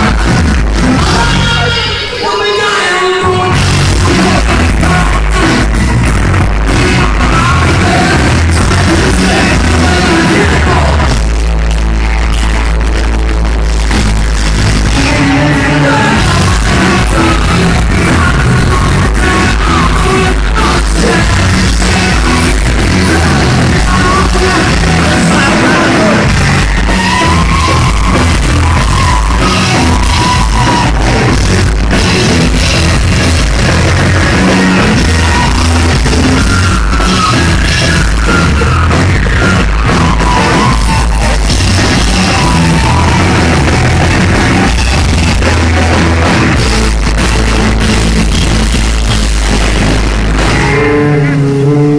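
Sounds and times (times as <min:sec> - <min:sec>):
person singing: 0:00.0 - 0:11.2, 0:14.8 - 0:47.8
live rock band playing: 0:00.0 - 0:51.9.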